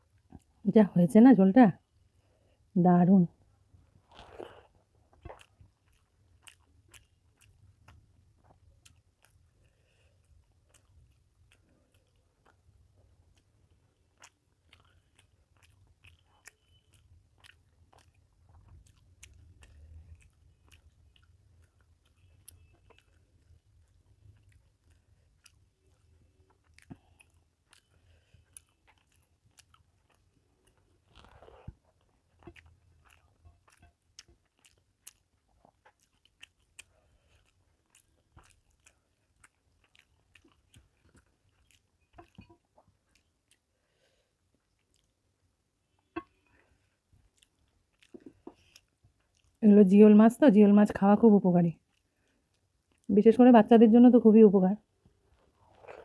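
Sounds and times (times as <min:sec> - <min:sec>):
person chewing with mouth clicks: 0:04.0 - 0:49.6, 0:51.8 - 0:53.1, 0:55.3 - 0:56.0.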